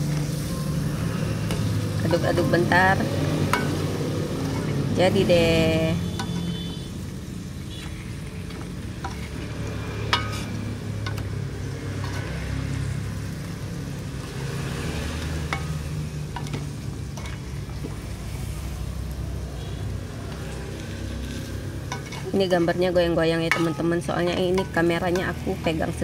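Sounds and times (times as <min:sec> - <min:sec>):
metal ladle scraping wok: 0:00.0 - 0:13.3, 0:14.0 - 0:18.8, 0:19.6 - 0:26.0
faint sizzle: 0:00.0 - 0:26.0.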